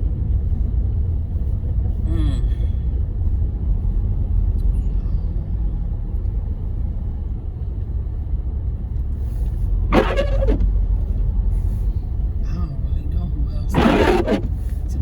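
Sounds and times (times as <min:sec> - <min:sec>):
car engine and tyres rumble: 0:00.0 - 0:15.0.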